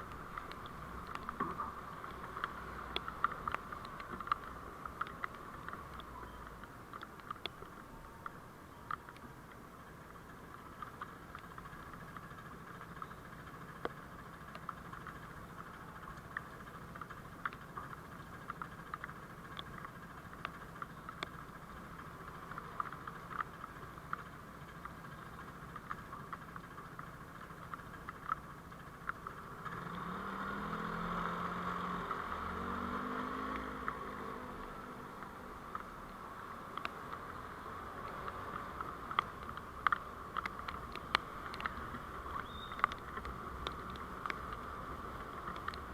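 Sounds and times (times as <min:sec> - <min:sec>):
faint clicks: 0:00.0 - 0:45.9
vehicle engine and road noise: 0:00.0 - 0:45.9.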